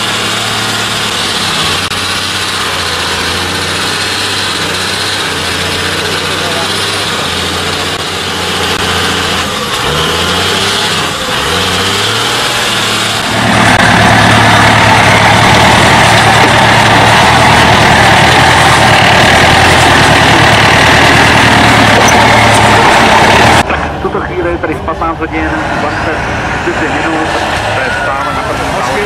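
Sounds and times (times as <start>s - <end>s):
off-road vehicle engine revving: 0.0s - 29.0s
truck engine under heavy load: 0.0s - 29.0s.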